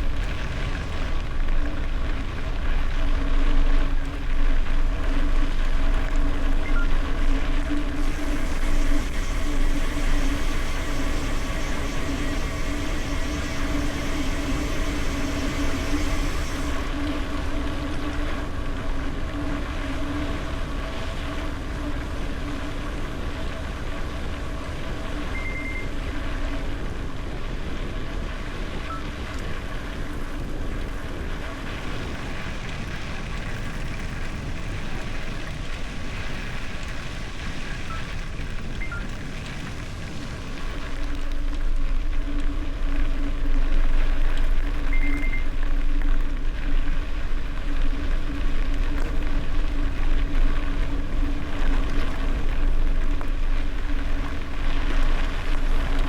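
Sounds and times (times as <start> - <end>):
bicycle tyre rumble: 0.0 - 56.0
steady hum: 0.0 - 56.0.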